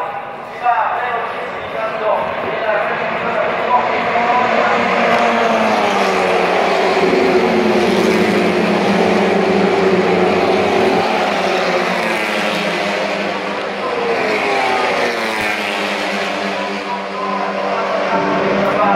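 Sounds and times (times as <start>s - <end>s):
racing cars passing at full throttle: 0.0s - 18.9s.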